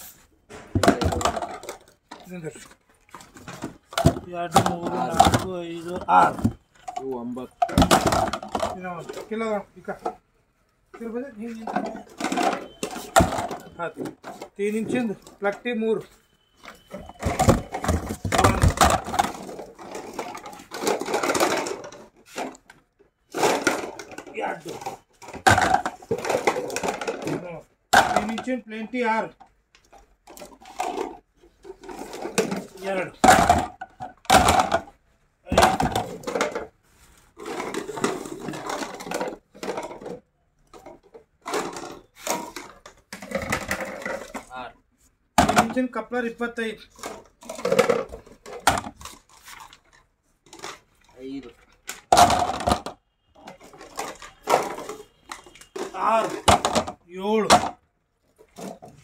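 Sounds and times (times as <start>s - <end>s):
plastic pipe fittings clattering: 0.5s - 10.2s, 11.0s - 15.8s, 16.6s - 44.8s, 45.4s - 59.0s.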